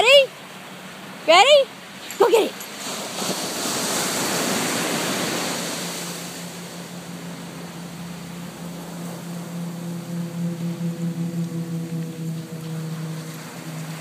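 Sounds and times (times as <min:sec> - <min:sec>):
ocean surf washing on shore: 0:00.0 - 0:14.0.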